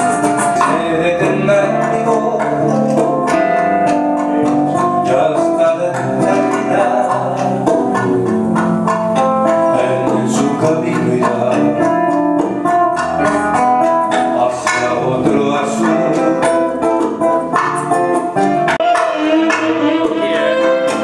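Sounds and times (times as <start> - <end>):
acoustic guitar picked quickly: 0.0 - 21.0
keyboard accompaniment: 0.0 - 21.0.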